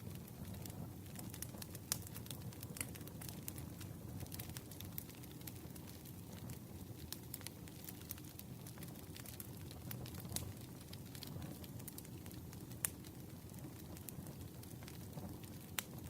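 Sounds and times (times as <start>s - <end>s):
campfire crackling and popping: 0.0s - 16.0s
low rumble of burning logs: 0.0s - 16.0s.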